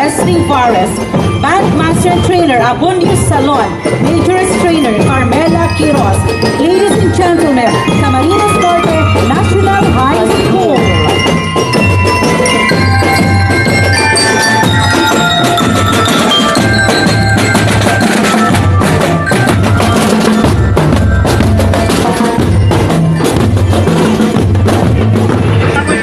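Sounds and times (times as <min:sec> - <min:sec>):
bell-like melody: 0:00.0 - 0:26.0
marching drum beat: 0:00.0 - 0:26.0.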